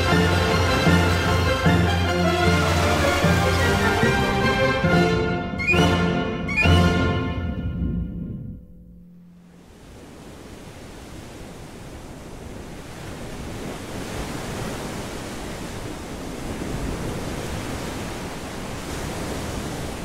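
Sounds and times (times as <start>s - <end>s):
ocean surf rushing: 0.0s - 20.0s.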